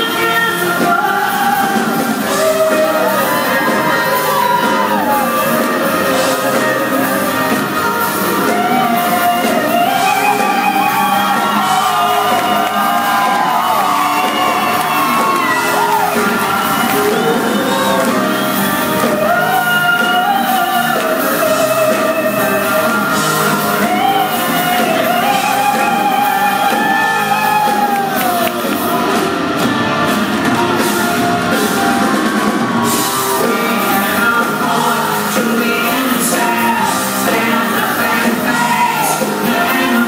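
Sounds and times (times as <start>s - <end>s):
woman singing lead: 0.0s - 29.6s, 30.4s - 40.0s
live rock band playing: 0.0s - 40.0s.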